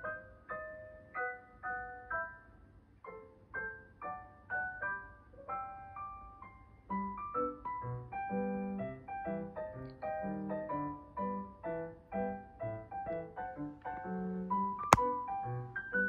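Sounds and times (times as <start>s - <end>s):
gentle piano music: 0.0s - 14.6s.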